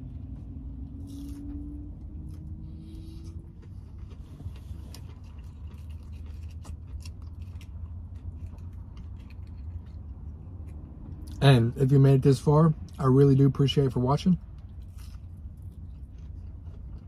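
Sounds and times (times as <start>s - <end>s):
person chewing food: 0.0s - 11.4s, 14.4s - 17.0s
steady low rumble: 0.0s - 17.0s.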